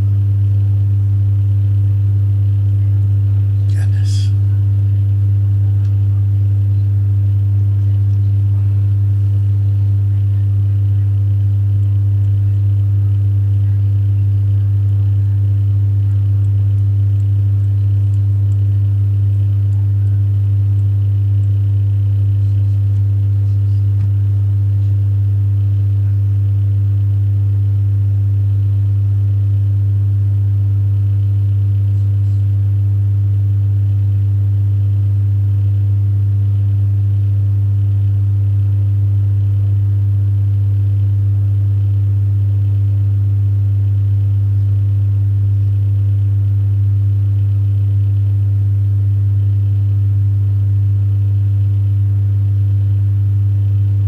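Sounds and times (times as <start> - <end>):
loud steady low hum: 0.0 - 54.0.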